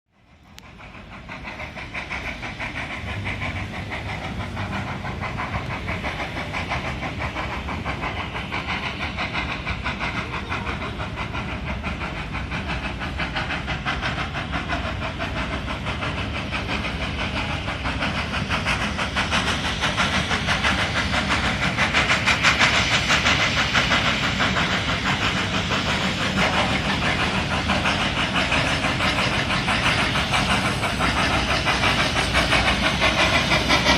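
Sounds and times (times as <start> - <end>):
steam hissing: 0.2 - 33.9
steam locomotive exhaust chuffs: 0.2 - 33.9.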